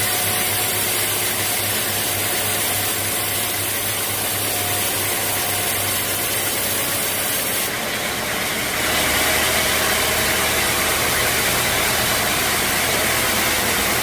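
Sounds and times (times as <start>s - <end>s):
sawmill machinery whirring: 0.0s - 14.0s.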